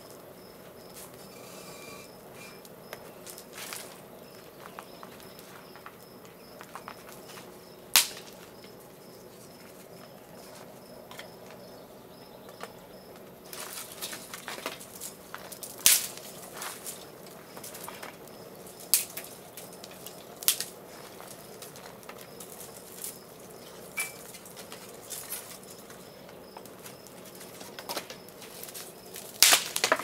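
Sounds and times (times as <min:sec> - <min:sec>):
insect chirping: 0:00.0 - 0:29.4
wood fire crackling and snapping: 0:01.0 - 0:08.9, 0:13.1 - 0:30.0.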